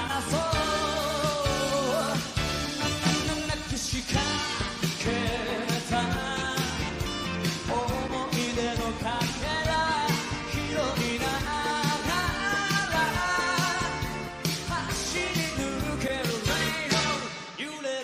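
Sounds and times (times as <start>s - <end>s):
man singing: 0.0s - 18.0s
pop band playing: 0.0s - 18.0s.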